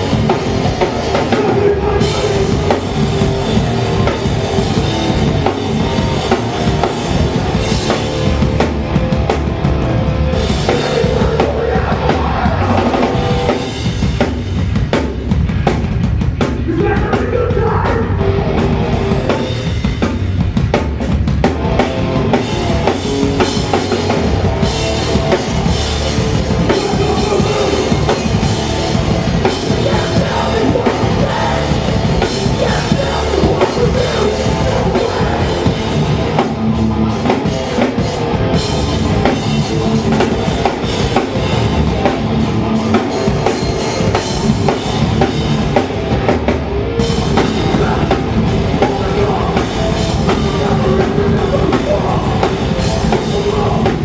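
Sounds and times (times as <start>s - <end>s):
distorted guitars: 0.0s - 54.0s
fast drum kit: 0.0s - 54.0s
punk band playing live: 0.0s - 54.0s.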